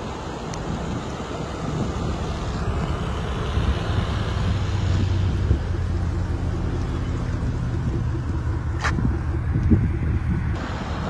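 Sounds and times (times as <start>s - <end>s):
highway vehicle noise: 0.0s - 11.0s
low engine hum: 0.0s - 11.0s
wind rumble: 0.0s - 11.0s.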